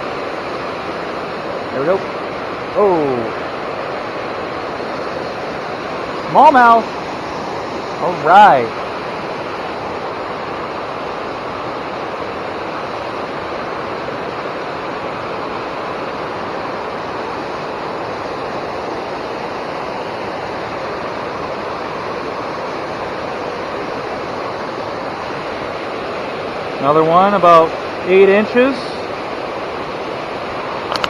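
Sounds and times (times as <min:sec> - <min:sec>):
water roaring over dam: 0:00.0 - 0:31.0.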